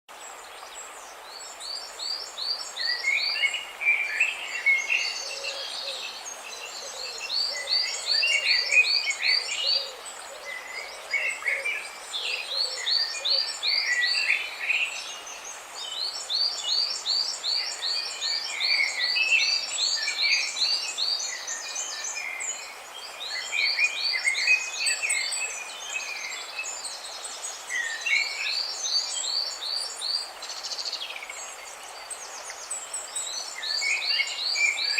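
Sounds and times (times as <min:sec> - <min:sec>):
background hiss: 0:00.1 - 0:34.9
songbirds chirping: 0:00.1 - 0:34.9.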